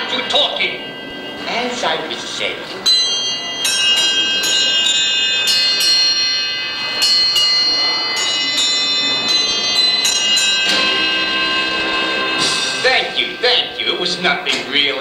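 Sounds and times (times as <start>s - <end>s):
bells struck playing a tune: 0.0s - 15.0s.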